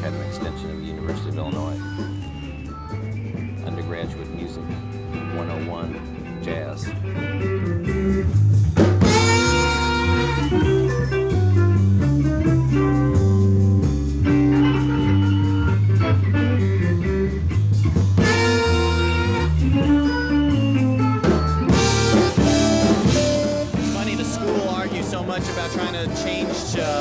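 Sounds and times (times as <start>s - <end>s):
saxophone melody: 0.0s - 8.4s, 9.0s - 17.5s, 18.2s - 27.0s
bass line: 0.0s - 27.0s
drums with cymbal ticks: 0.0s - 27.0s
guitar: 0.0s - 27.0s
keyboard: 0.0s - 27.0s.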